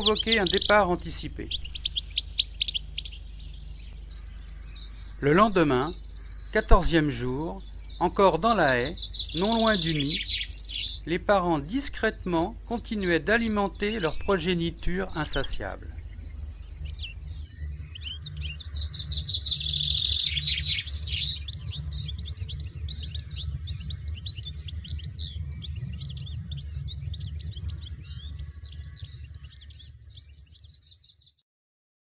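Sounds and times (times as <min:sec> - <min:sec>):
finches twittering: 0:00.0 - 0:31.4.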